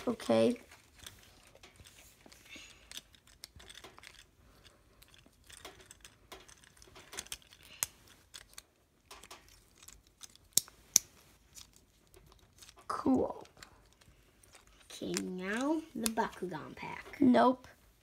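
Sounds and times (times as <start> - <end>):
plastic toy parts clicking: 0.9 - 16.4.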